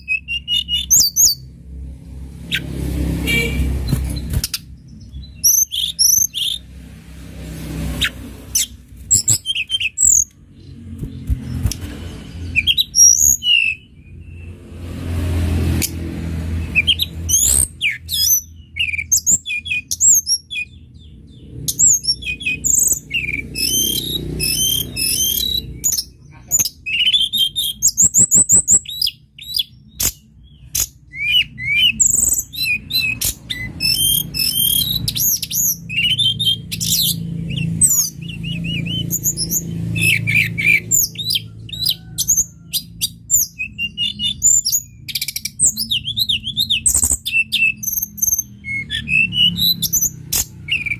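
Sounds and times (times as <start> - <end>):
songbird singing whistled chirps: 0.0 - 1.5, 3.3 - 6.6, 8.0 - 14.5, 16.7 - 50.9.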